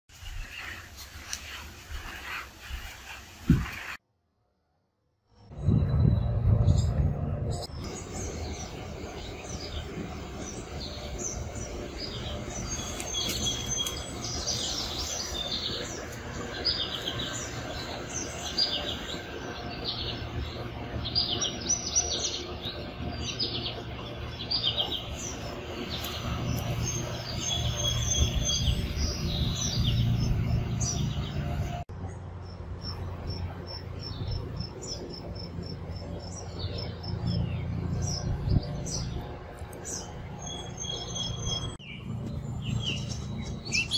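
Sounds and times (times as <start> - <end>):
steady low hum: 5.4 - 43.9
songbirds chirping: 5.9 - 43.9.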